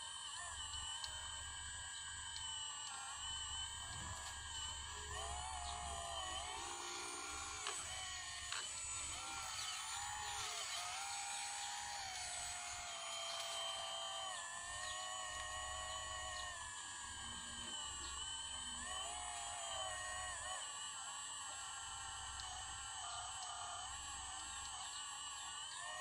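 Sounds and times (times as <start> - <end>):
hydraulic pump whining: 0.0 - 26.0.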